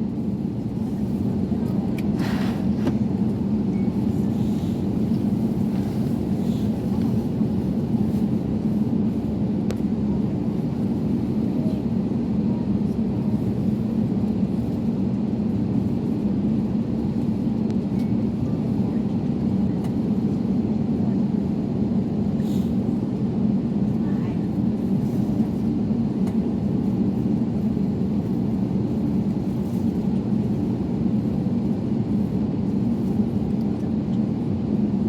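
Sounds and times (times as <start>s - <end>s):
low rumble inside aircraft cabin: 0.0s - 35.0s.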